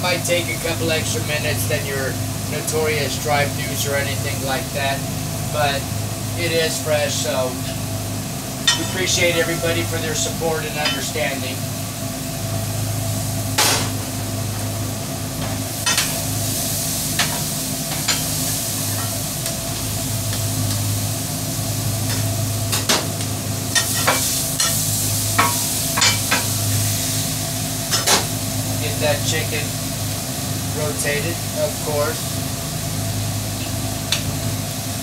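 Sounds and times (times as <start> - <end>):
food sizzling on a griddle: 0.0 - 35.0
steady low hum: 0.0 - 35.0.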